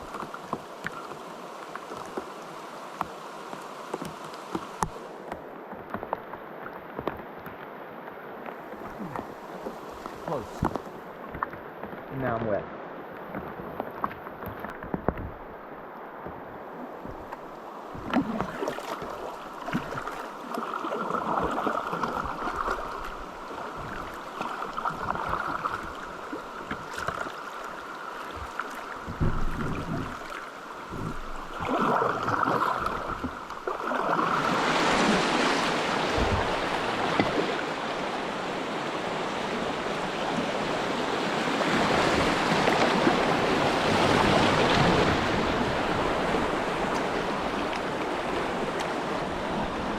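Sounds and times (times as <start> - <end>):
river water rushing: 0.0 - 49.9
water splashes: 0.0 - 49.9.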